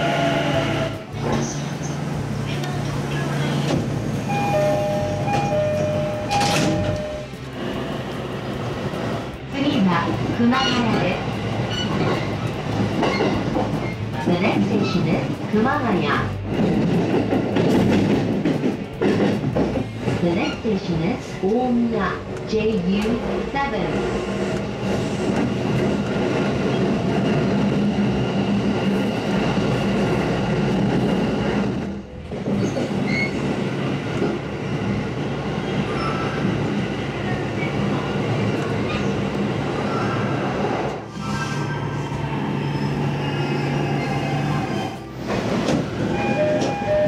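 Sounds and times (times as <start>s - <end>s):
train motors humming: 0.0s - 41.2s
train wheels rumbling on rails: 0.0s - 47.0s.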